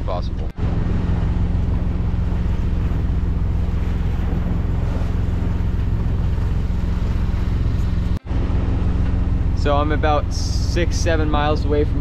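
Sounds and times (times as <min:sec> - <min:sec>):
boat diesel engine droning: 0:00.0 - 0:12.0
water wash: 0:00.0 - 0:12.0
wind: 0:00.0 - 0:12.0.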